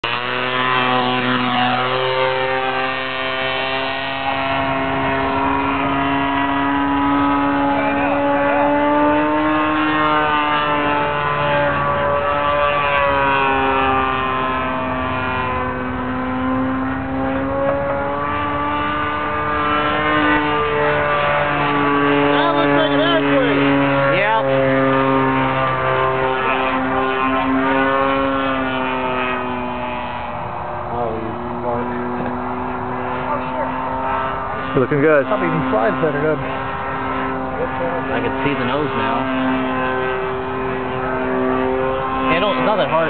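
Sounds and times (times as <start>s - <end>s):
model plane engine running: 0.0s - 43.0s.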